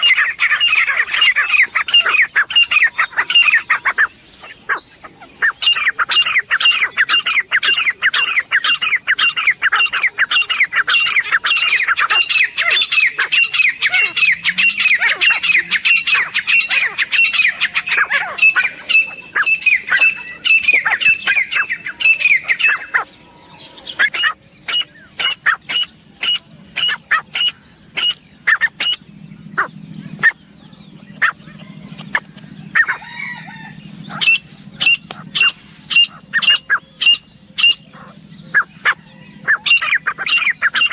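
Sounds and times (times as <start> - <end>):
bird calling ringing notes: 0.0 - 40.9.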